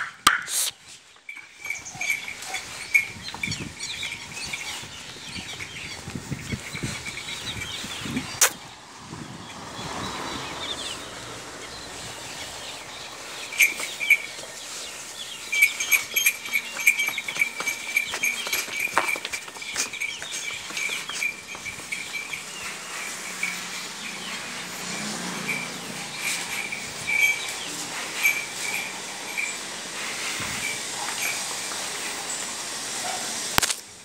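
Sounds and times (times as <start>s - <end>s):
birds chirping: 0.0s - 33.5s
ox bells jingling: 0.5s - 8.4s, 11.8s - 32.4s.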